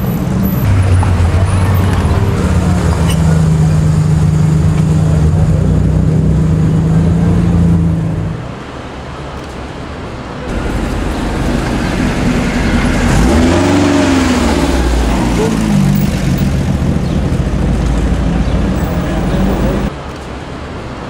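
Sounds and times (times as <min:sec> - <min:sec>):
car engine passing: 0:00.0 - 0:08.5, 0:10.5 - 0:19.9
second car engine: 0:00.0 - 0:08.5, 0:10.5 - 0:19.9.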